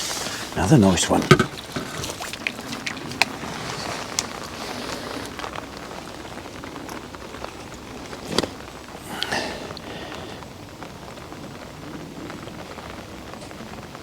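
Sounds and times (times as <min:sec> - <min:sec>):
rain falling steadily: 0:00.0 - 0:14.0
sharp raindrop ticks: 0:00.0 - 0:14.0.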